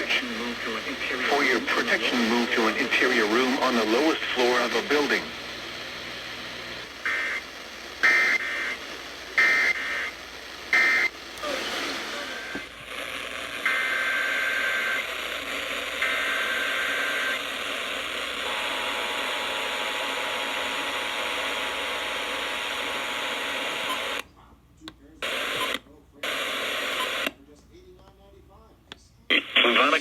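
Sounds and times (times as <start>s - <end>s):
radio static: 0.0s - 24.3s, 25.2s - 27.4s, 29.3s - 30.0s.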